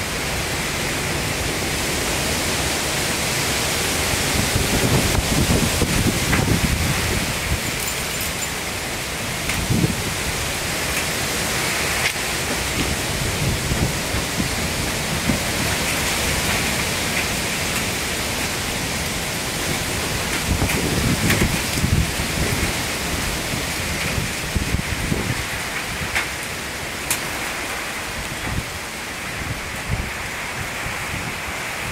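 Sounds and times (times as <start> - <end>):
heavy rain pouring: 0.0 - 31.9
wind gusts: 0.0 - 31.9.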